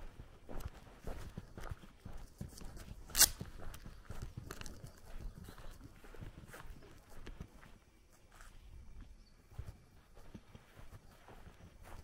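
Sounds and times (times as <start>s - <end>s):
soft footsteps on grass: 0.0s - 12.0s.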